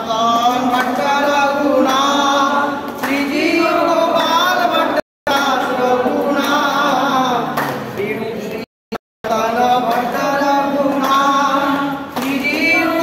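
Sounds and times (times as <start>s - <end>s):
group devotional singing: 0.0s - 13.0s
hands clapping: 0.2s - 8.2s, 9.8s - 13.0s.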